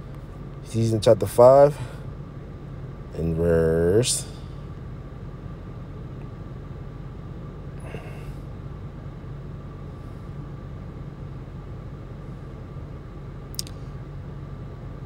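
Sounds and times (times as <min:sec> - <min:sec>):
low background drone: 0:00.0 - 0:15.0.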